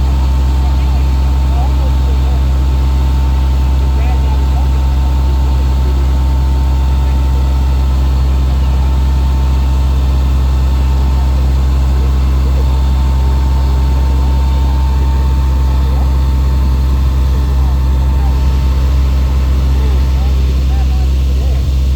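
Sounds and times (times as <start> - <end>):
fire engine pump humming: 0.0 - 21.9
thin steady whine: 0.0 - 21.9.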